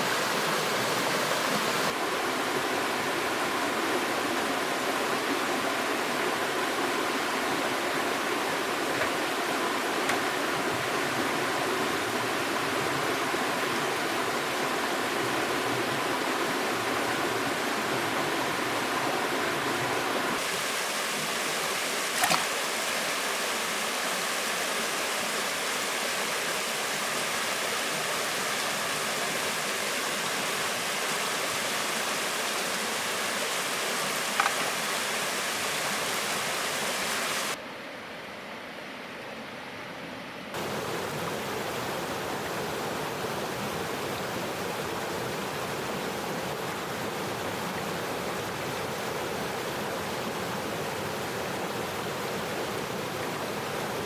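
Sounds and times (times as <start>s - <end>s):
river water rushing: 0.0s - 37.6s, 40.6s - 54.0s.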